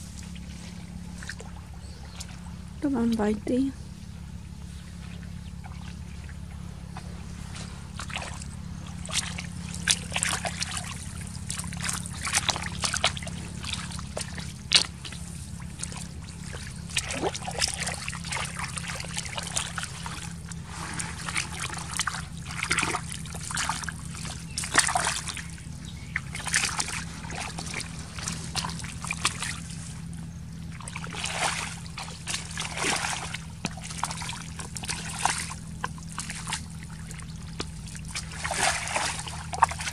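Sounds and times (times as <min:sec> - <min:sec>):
mud squelching: 0:00.0 - 0:39.9
steady low hum: 0:00.0 - 0:39.9
water splashing and sloshing: 0:00.0 - 0:39.9.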